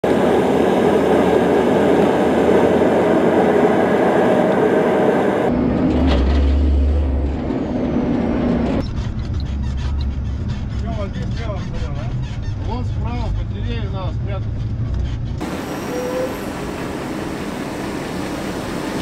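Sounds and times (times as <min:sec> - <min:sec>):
heavy truck engine running: 0:00.0 - 0:11.4, 0:14.2 - 0:19.0.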